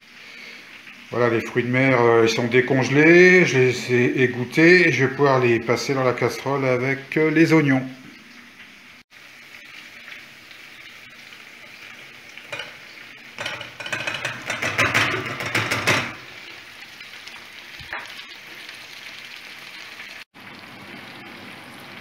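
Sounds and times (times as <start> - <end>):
onions sizzling in oil: 0.0 - 5.9, 8.1 - 22.0.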